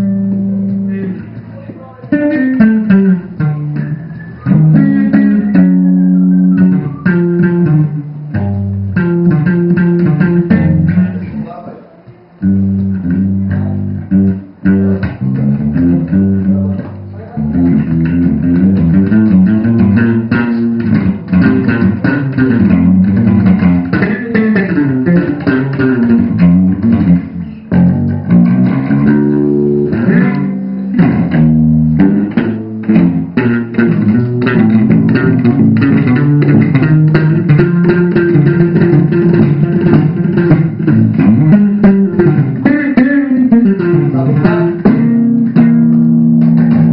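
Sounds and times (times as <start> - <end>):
electric bass: 0.0 - 46.9
electric guitar: 0.0 - 46.9.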